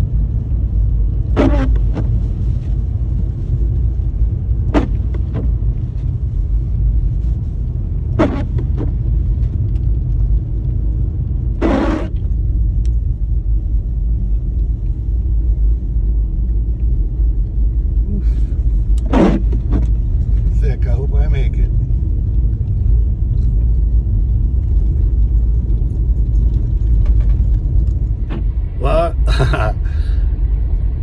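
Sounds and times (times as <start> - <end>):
engine and tyres rumbling: 0.0 - 28.8, 29.4 - 31.0.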